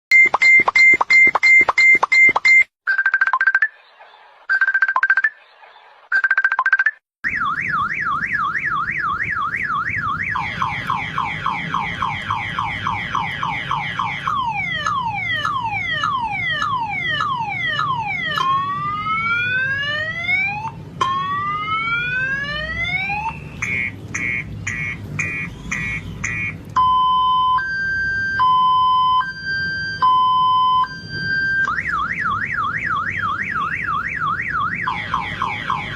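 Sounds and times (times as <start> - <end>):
car alarm siren: 6.1 - 35.9.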